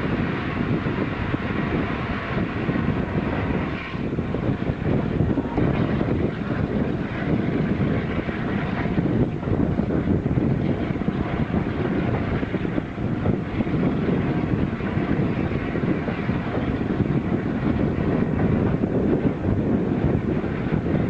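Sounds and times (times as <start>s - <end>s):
steam train running: 0.0s - 21.0s
wind on microphone: 0.0s - 21.0s.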